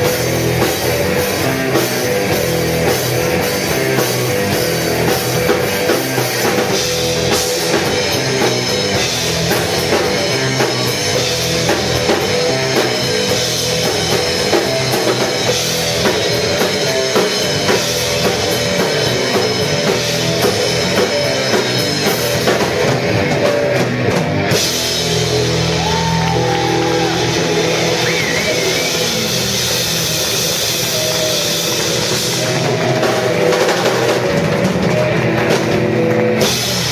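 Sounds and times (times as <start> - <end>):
rock band playing: 0.0 - 36.9.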